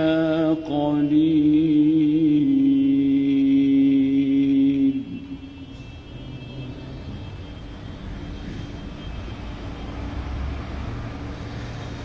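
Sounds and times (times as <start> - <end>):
congregation room noise: 0.0 - 12.0
faint steady hum: 0.0 - 12.0.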